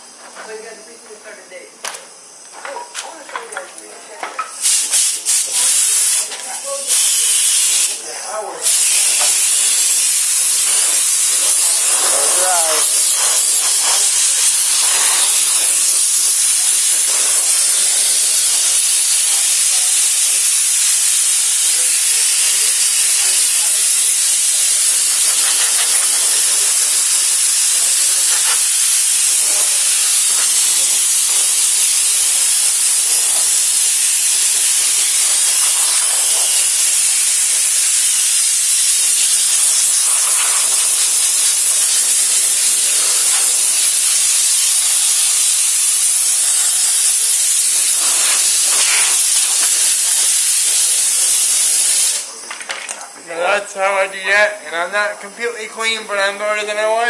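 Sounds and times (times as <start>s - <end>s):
high-pitched hissing air spray: 4.4s - 52.4s.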